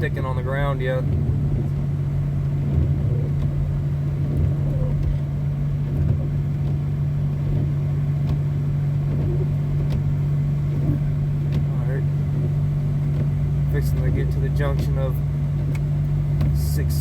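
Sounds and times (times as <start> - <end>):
car cabin road noise: 0.0 - 17.0.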